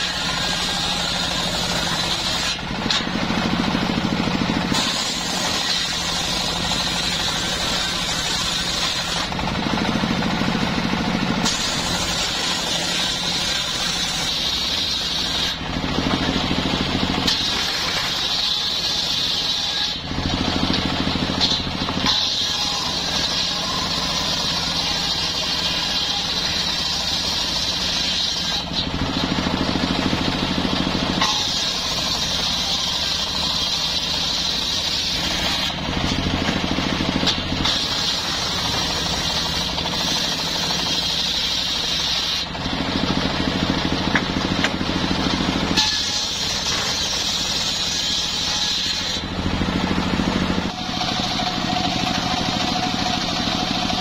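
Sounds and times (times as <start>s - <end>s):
circular saw cutting log: 0.0s - 54.0s.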